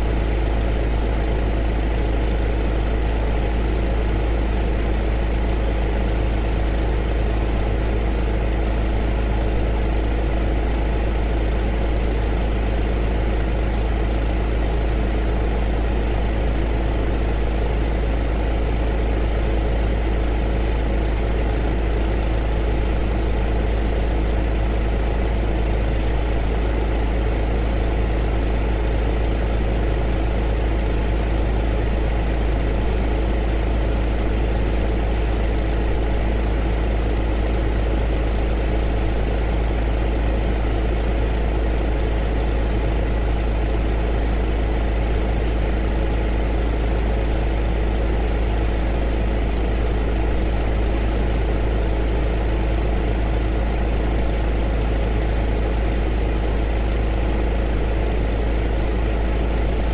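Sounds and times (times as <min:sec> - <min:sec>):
heater running: 0:00.0 - 0:59.9.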